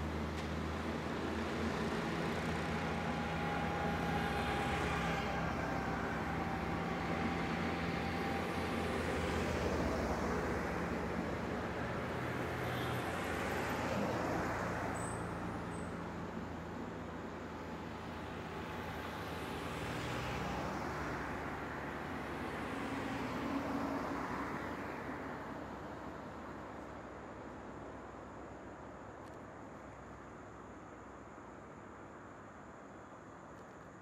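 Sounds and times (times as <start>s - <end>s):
car engines humming: 0.0s - 28.8s.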